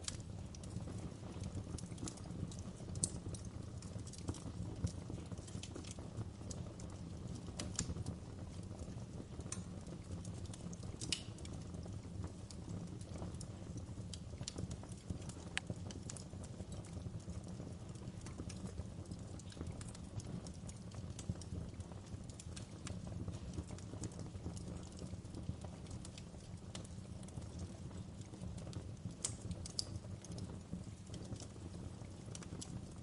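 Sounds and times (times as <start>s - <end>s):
burning logs crackling and popping: 0.0s - 33.0s
low rumble of flames: 0.0s - 33.0s.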